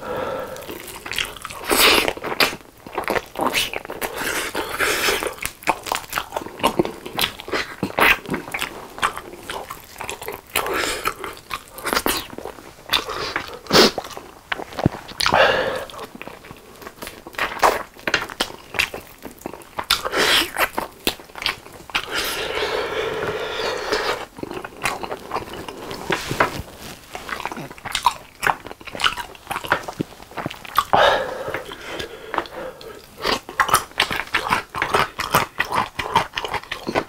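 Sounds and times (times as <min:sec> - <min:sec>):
biting and chewing chicken: 0:00.5 - 0:22.6, 0:23.2 - 0:37.0.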